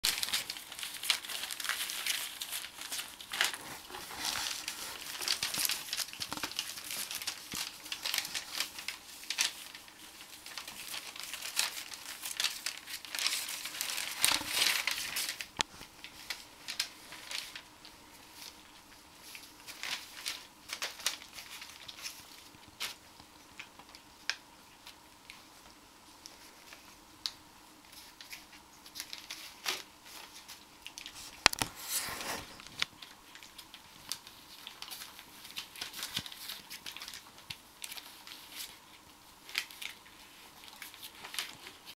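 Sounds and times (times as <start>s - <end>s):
puppies tearing newspaper: 0.0s - 25.7s, 27.8s - 42.0s.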